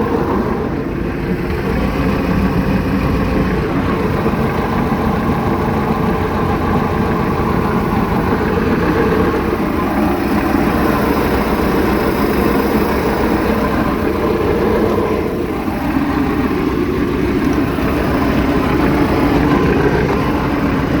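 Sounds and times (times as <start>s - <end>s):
boat engine idling roughly: 0.0s - 21.0s.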